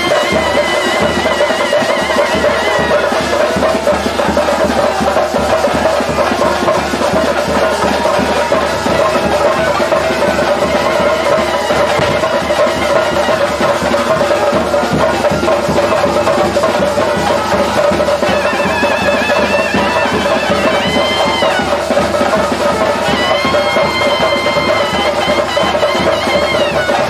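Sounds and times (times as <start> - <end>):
continuous drumming: 0.0 - 27.0
wind instrument melody: 0.0 - 27.0.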